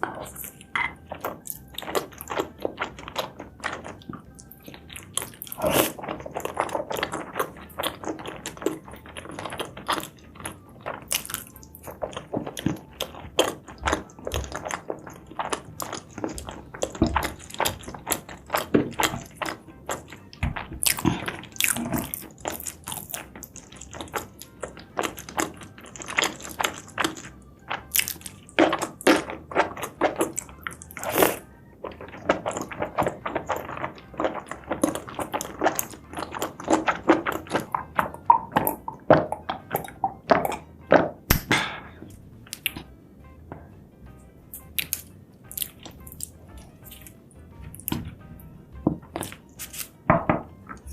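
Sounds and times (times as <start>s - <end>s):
person chewing with wet smacks: 0.0s - 42.9s, 44.5s - 50.9s.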